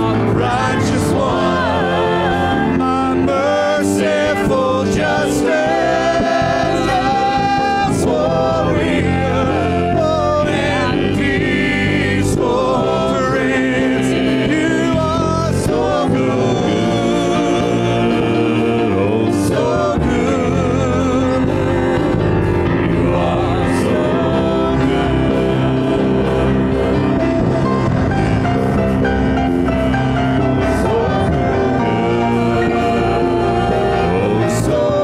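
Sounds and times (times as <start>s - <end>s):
gospel band and singers: 0.0s - 35.0s.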